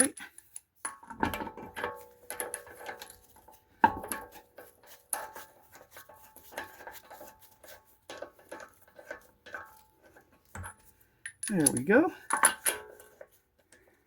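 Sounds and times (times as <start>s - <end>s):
lug nuts clinking and rattling: 0.0s - 14.0s.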